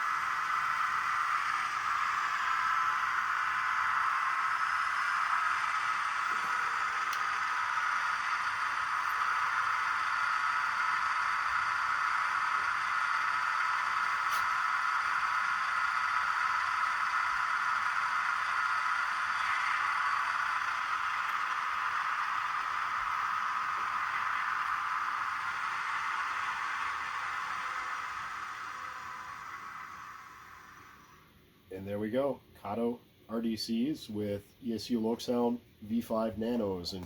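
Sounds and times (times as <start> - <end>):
diesel engine sound from tiny speaker: 0.0 - 31.2.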